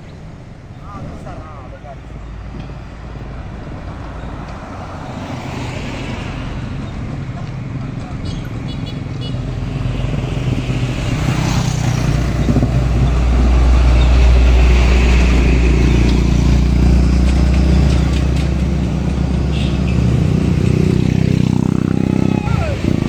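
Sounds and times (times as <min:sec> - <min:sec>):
diesel truck passing: 0:00.0 - 0:23.0
vehicle approaching: 0:00.0 - 0:23.0.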